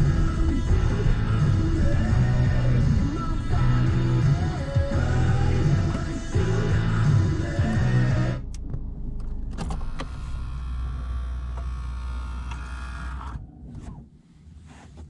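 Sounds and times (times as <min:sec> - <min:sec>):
car engine idling: 0:00.0 - 0:13.4
car radio music: 0:00.0 - 0:14.0.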